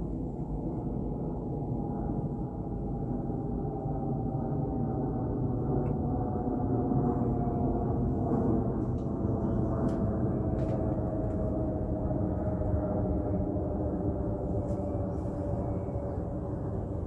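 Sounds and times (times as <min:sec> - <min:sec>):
aircraft passing overhead: 0:00.0 - 0:17.0.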